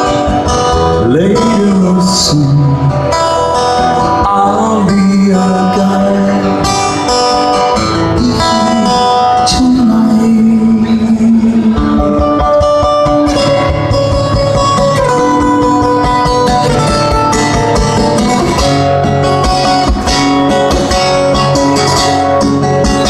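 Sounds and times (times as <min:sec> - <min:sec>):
guitar melody: 0:00.0 - 0:23.0
live band playing: 0:00.0 - 0:23.0.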